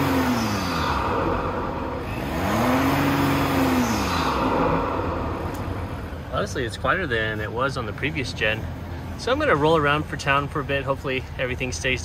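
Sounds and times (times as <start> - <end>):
intake rushing: 0.0 - 10.0
diesel engine revving: 0.0 - 12.0.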